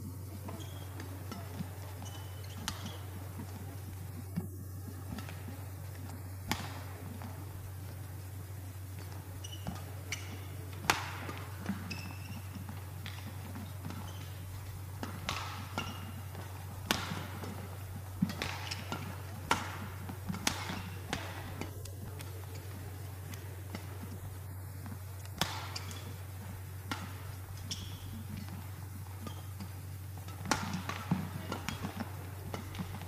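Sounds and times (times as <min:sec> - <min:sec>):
shoes squeaking on court: 0:00.1 - 0:08.2, 0:08.8 - 0:33.0
rackets hitting shuttlecock: 0:00.4 - 0:07.8, 0:09.0 - 0:24.1, 0:24.8 - 0:33.0.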